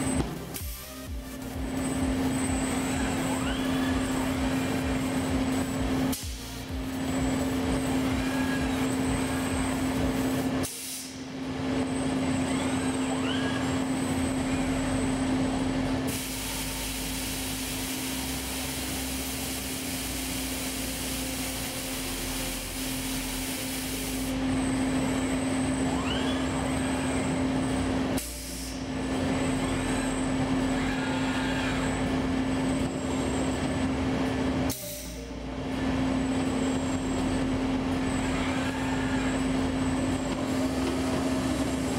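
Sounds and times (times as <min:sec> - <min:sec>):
machine hum and whir: 0:00.0 - 0:41.9.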